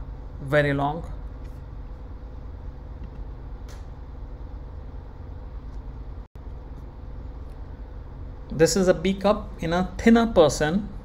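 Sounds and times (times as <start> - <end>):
low background hum with hiss: 0.0 - 11.0.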